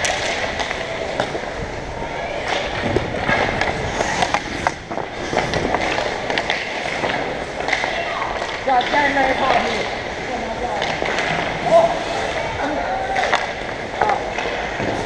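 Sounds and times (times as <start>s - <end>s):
skates scraping on ice: 0.0s - 15.0s
sticks and puck clacking: 0.0s - 15.0s.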